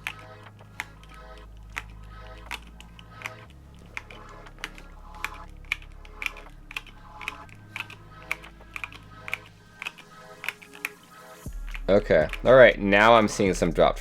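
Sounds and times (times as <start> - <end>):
mechanical keyboard keys clacking: 0.0 - 13.4.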